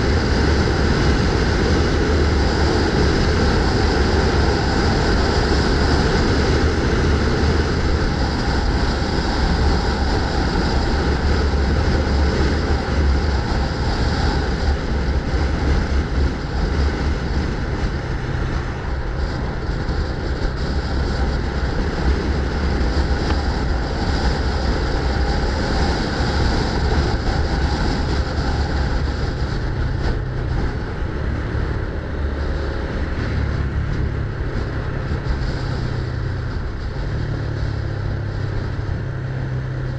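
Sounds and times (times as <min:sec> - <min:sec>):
road noise: 0:00.0 - 0:39.9
wind rumble: 0:00.0 - 0:39.9.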